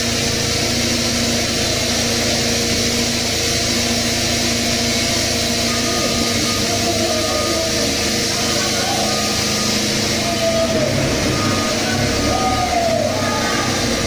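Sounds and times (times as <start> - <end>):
tunnelling machinery engine drone: 0.0 - 14.0.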